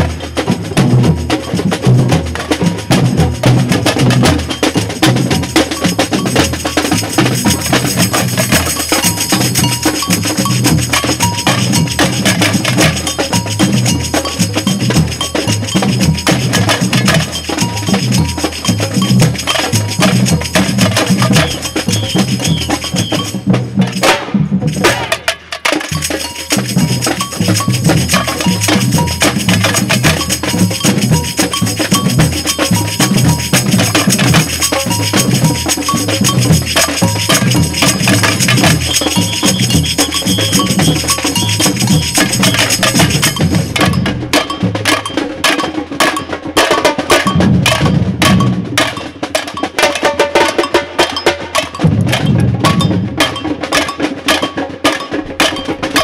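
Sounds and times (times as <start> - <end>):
drum band playing: 0.0 - 56.0.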